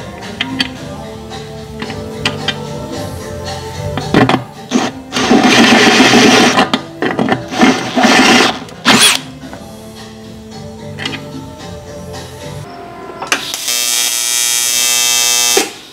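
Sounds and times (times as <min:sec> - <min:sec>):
background music: 0:00.0 - 0:13.6.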